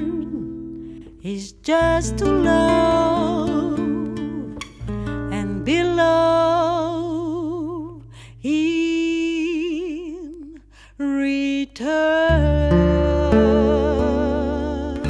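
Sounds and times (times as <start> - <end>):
acoustic guitar: 0.0 - 10.4, 11.7 - 15.0
woman singing with vibrato: 0.0 - 15.0.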